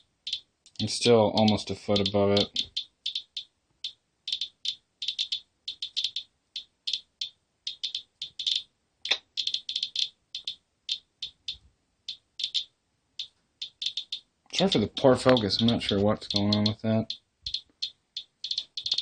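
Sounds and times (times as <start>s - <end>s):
geiger counter clicking: 0.0s - 19.0s.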